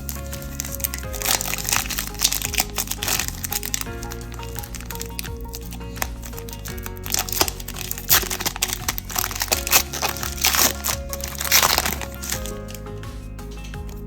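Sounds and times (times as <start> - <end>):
background music: 0.0 - 14.0
plastic wrapper crinkling: 0.0 - 14.0.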